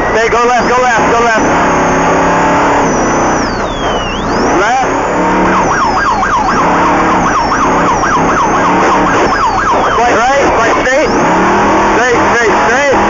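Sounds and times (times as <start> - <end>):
race truck engine running hard: 0.0 - 13.0
yelp siren warbling: 0.0 - 13.0.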